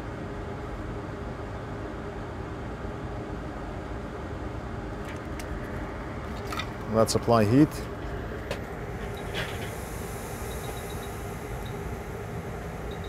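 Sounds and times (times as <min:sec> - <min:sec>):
fan-like background noise: 0:00.0 - 0:13.0.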